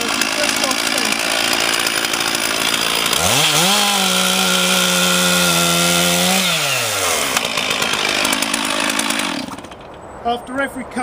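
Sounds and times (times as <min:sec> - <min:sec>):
chainsaw revving: 0:00.0 - 0:09.9.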